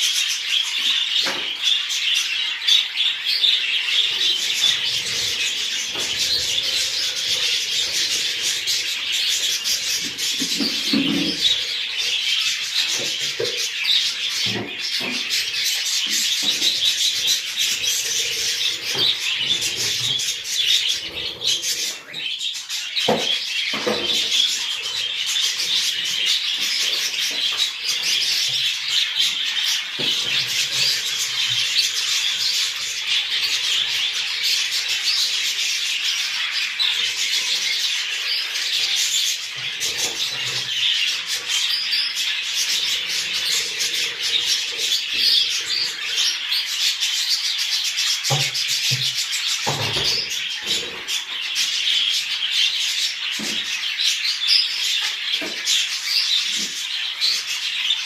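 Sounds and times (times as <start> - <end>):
budgerigars chattering and warbling: 0.0 - 58.0.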